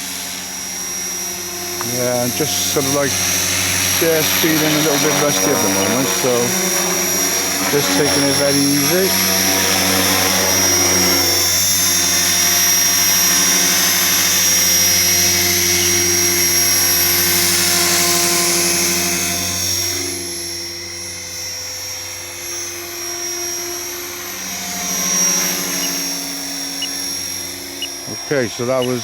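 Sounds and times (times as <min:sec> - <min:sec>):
rotor blades whirring: 0:00.0 - 0:18.4, 0:23.6 - 0:29.0
rc helicopter motor whine: 0:00.0 - 0:29.0.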